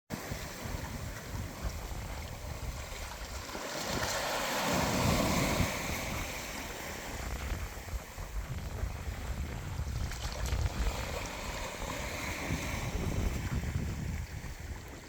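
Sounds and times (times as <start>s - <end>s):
ocean wave washing: 0.1s - 15.0s
wind buffeting microphone: 0.1s - 15.0s.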